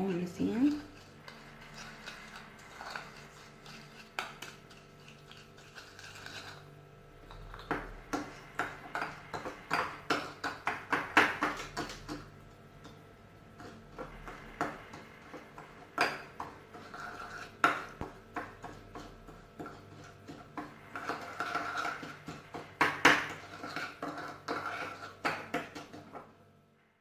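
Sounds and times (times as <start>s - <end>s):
spoon scraping a dish: 0.1s - 26.3s.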